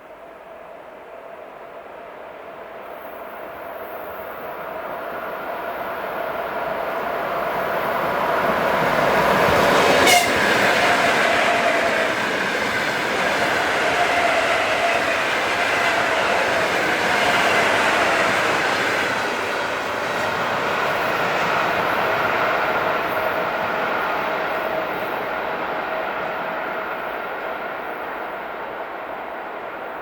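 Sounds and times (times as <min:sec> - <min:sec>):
electric train passing: 0:00.3 - 0:30.0.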